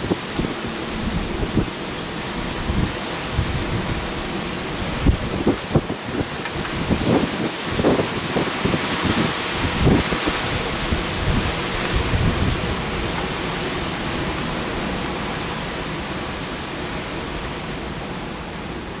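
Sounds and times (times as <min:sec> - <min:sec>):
wind buffeting microphone: 0:00.0 - 0:18.6
strong wind rushing hiss: 0:00.0 - 0:19.0.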